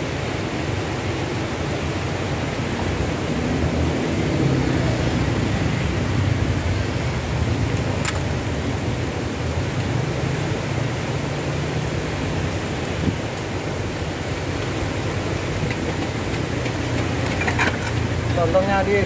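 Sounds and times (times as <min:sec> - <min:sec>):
roadside street noise: 0:00.0 - 0:19.0.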